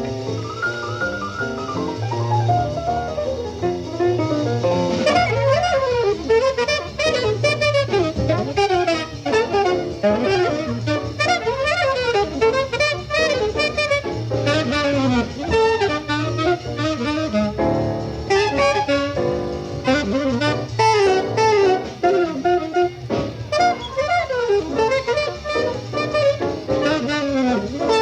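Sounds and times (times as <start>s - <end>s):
bass: 0.0s - 28.0s
drums: 0.0s - 28.0s
fast saxophone line: 0.0s - 28.0s.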